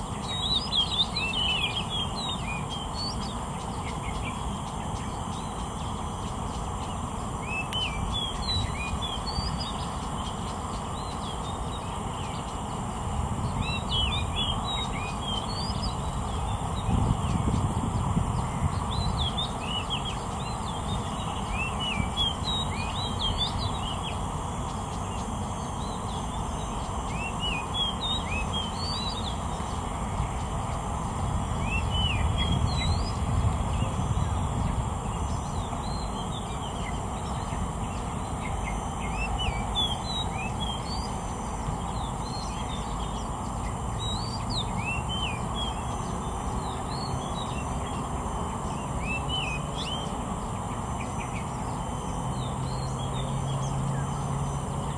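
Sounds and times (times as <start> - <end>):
bird singing whistled notes: 0.0 - 54.9.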